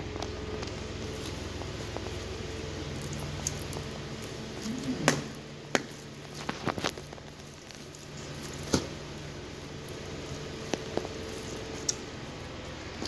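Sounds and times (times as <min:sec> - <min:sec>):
wet squishing under boots: 0:00.0 - 0:13.0.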